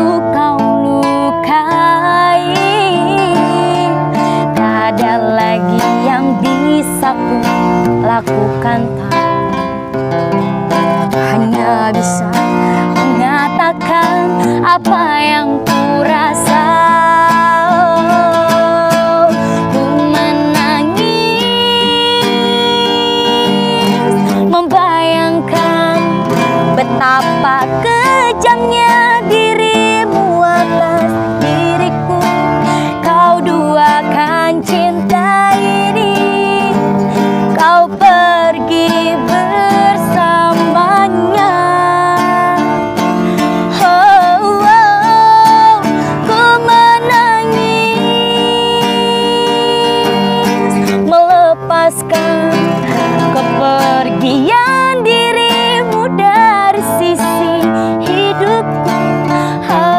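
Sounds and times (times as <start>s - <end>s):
strummed acoustic guitar: 0.0s - 59.9s
woman singing with vibrato: 0.0s - 59.9s.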